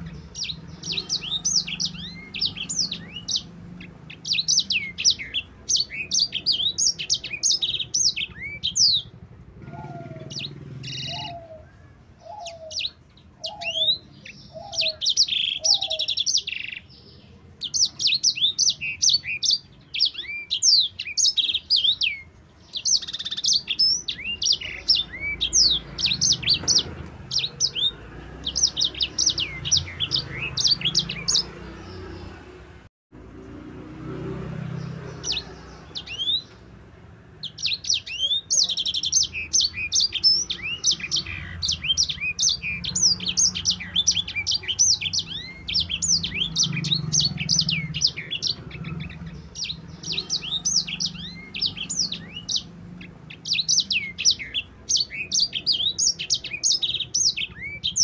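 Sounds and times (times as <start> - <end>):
finch singing high twittering song: 0.0 - 32.7, 34.4 - 58.0.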